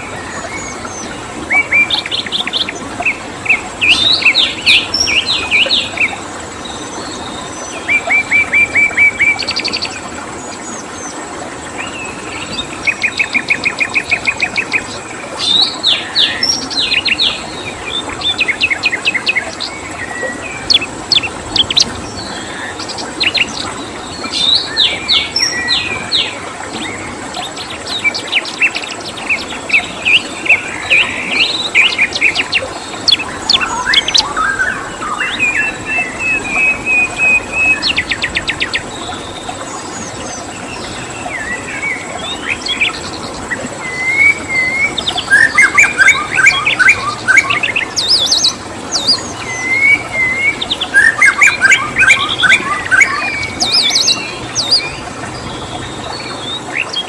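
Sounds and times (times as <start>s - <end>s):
songbirds chirping and trilling: 0.0s - 57.0s
steady background hiss: 0.0s - 57.0s.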